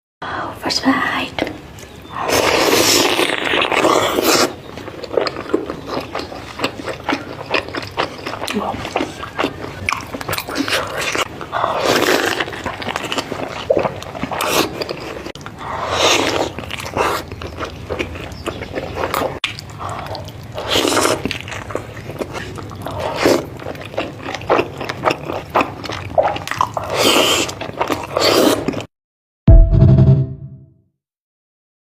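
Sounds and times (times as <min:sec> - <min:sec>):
person chewing food: 0:01.4 - 0:28.9.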